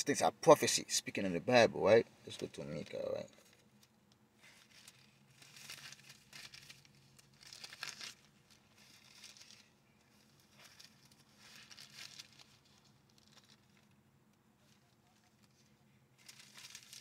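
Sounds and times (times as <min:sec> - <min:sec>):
thin pages turning: 0:02.3 - 0:14.0, 0:14.6 - 0:17.0.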